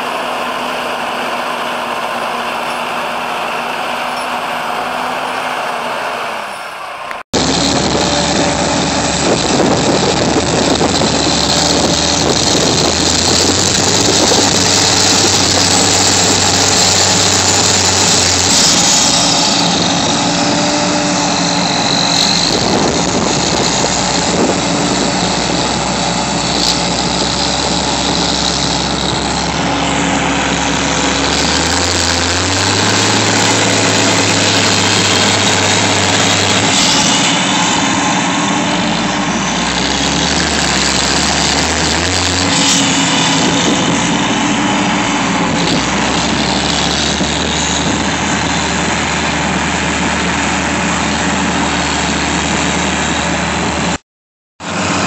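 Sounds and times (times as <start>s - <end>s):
diesel engines under load: 0.0s - 54.0s, 54.6s - 55.0s.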